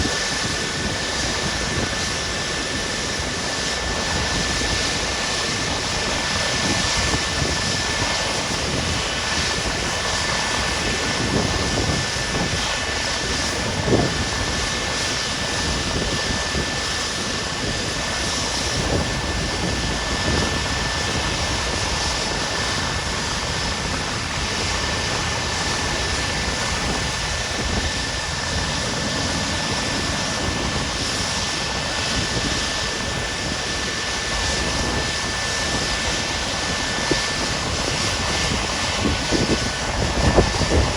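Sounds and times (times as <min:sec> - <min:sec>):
helicopter turbine and rotor: 0:00.0 - 0:40.9.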